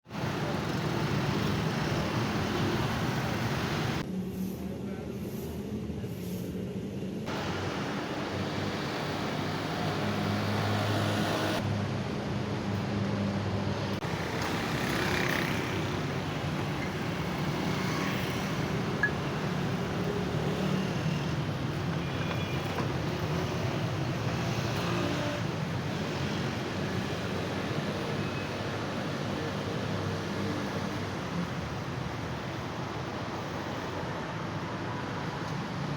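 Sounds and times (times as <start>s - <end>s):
road traffic passing: 0.0s - 4.8s, 5.4s - 35.9s.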